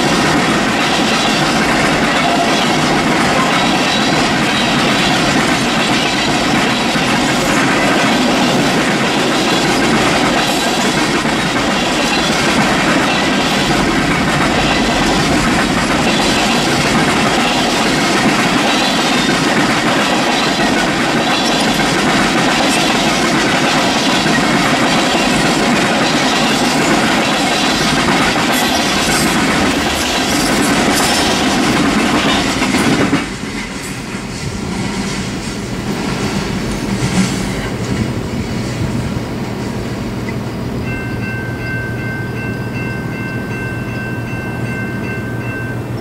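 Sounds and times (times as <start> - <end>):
freight train wheels rolling on rails: 0.0 - 46.0.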